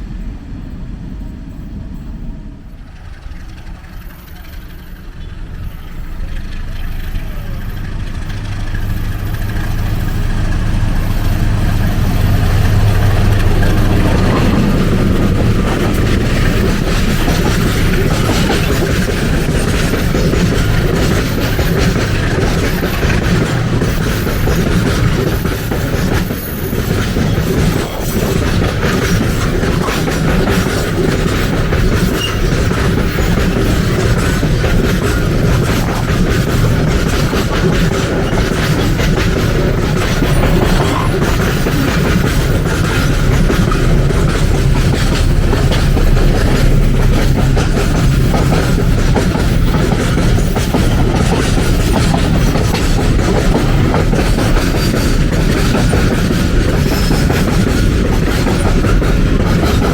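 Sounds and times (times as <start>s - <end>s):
locomotive engine hum: 0.0s - 59.9s
train wagons rattling: 0.0s - 59.9s
wheels clacking over rail joints: 2.0s - 59.9s.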